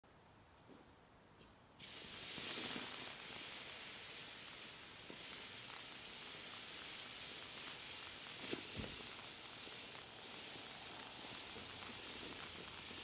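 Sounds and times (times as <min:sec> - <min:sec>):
fountain firework hissing: 0:01.8 - 0:13.0.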